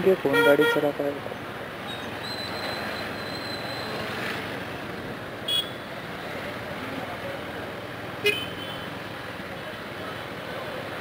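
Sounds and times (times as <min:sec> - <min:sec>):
motorcycle traffic: 0:00.0 - 0:11.0.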